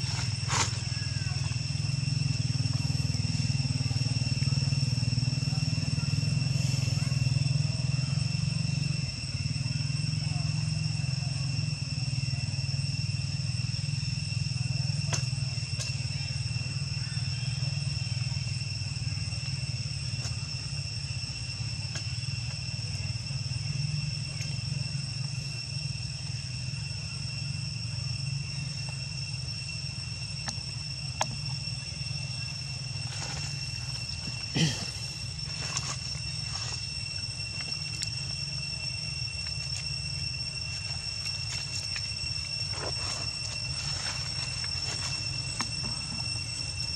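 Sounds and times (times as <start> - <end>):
high-pitched insect drone: 0.0 - 46.9.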